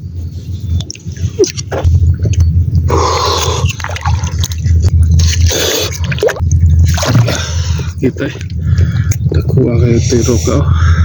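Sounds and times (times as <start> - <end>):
steady low hum: 0.0 - 11.0
water splashing and sloshing: 0.4 - 9.8.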